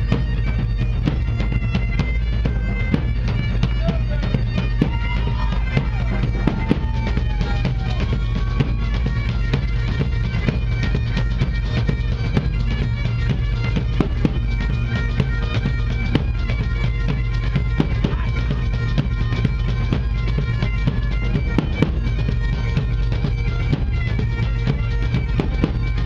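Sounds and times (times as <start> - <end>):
bagpipes playing melody: 0.0 - 26.0
large drums beating: 0.0 - 26.0.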